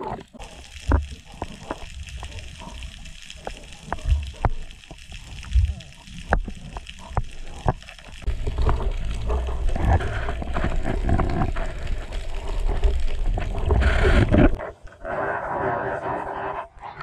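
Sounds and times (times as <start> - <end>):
underwater water rush: 0.0 - 16.6.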